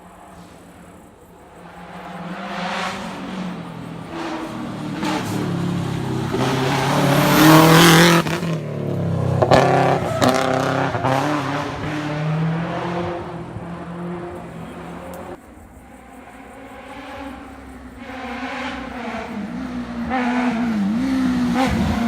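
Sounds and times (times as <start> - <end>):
racing car engine accelerating: 1.6 - 15.4, 16.1 - 22.0.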